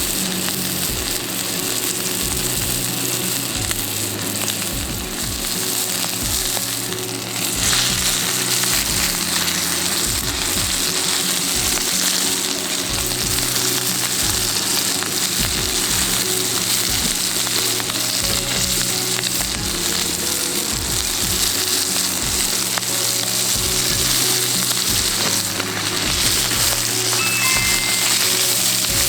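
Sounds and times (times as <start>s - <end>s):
background music with low notes: 0.0s - 29.0s
crackling hiss: 0.0s - 29.0s.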